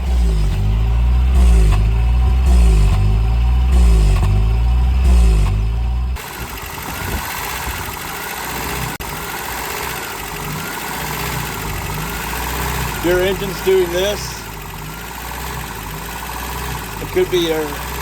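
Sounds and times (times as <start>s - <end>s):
engine idling rough: 0.0s - 18.0s.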